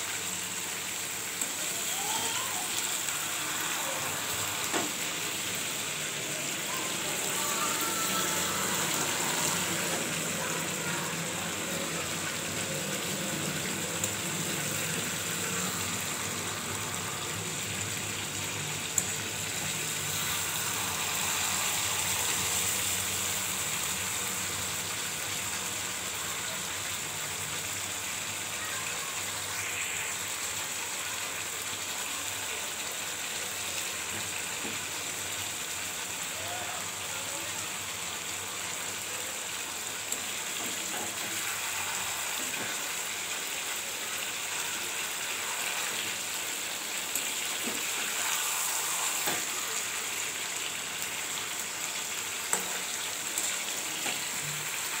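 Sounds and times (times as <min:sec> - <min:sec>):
chicken sizzling in oil: 0:00.0 - 0:55.0.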